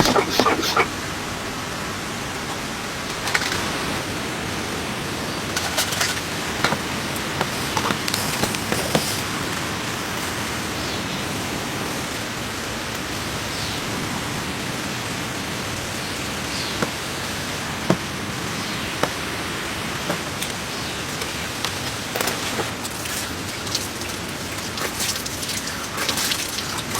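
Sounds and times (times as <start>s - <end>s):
rain falling: 0.8s - 26.9s.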